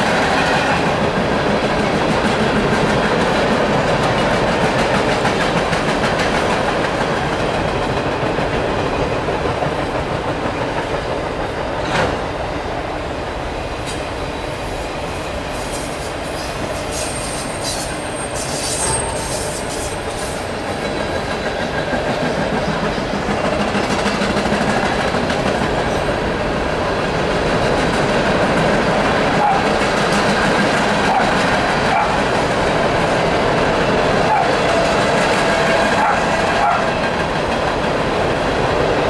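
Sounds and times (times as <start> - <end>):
freight train wheels clattering: 0.0 - 12.3, 15.3 - 39.0.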